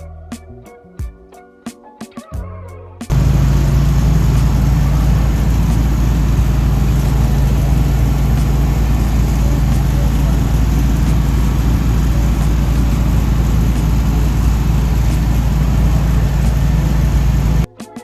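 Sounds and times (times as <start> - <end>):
machine running with hum and hiss: 3.1 - 17.7.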